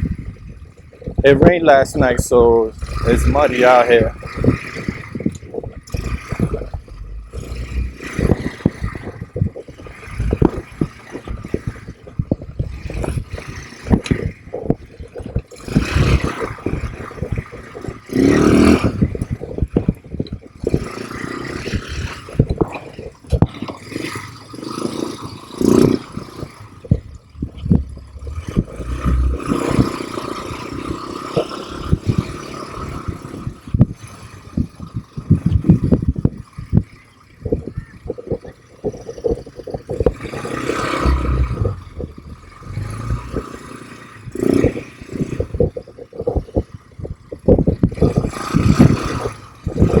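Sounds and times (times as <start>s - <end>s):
quad bike engine: 0.0s - 50.0s.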